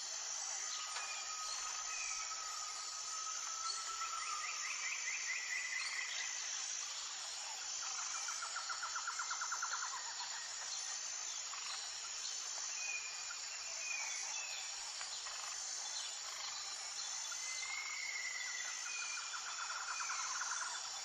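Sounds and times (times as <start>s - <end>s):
insects chirping: 0.0s - 21.0s
rapid insect trill: 0.0s - 21.0s.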